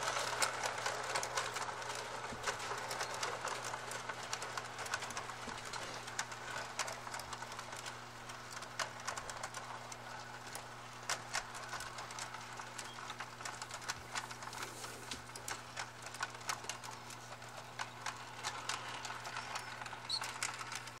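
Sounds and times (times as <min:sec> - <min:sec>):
low electric hum: 0:00.0 - 0:21.0
small wheels clacking over rail joints: 0:00.0 - 0:21.0.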